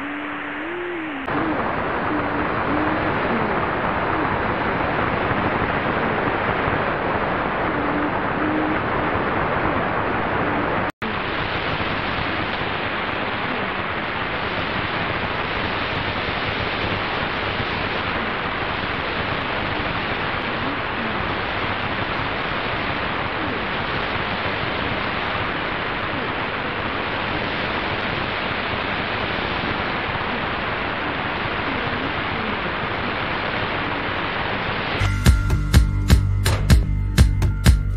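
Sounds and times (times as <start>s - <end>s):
woman reading numbers on radio: 0.0s - 9.8s, 10.4s - 34.9s
shortwave radio static hiss: 0.0s - 35.6s.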